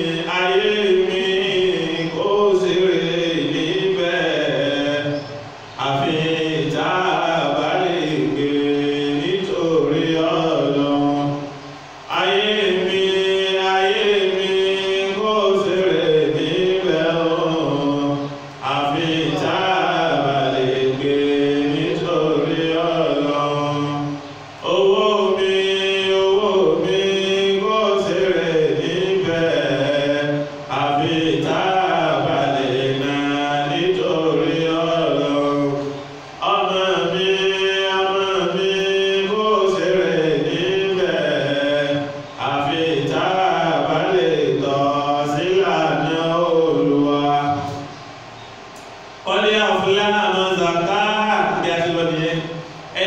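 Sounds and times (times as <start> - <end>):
man chanting into a microphone: 0.0 - 48.0, 49.2 - 53.0.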